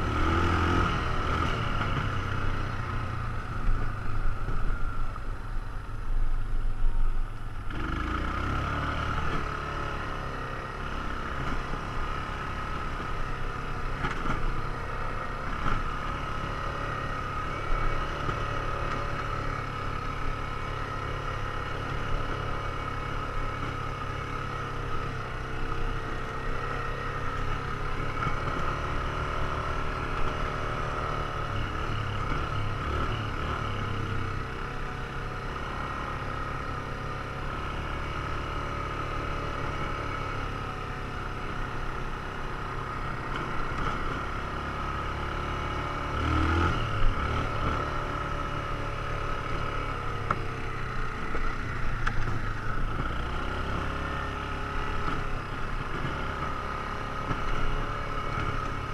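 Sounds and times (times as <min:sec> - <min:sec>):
atv engine revving: 0:00.0 - 0:04.9, 0:07.7 - 0:58.9.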